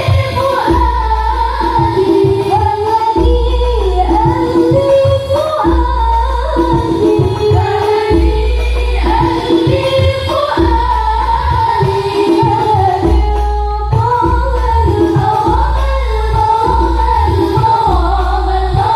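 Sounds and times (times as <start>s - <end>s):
deep drum beats: 0.0s - 18.9s
woman singing: 0.0s - 18.9s.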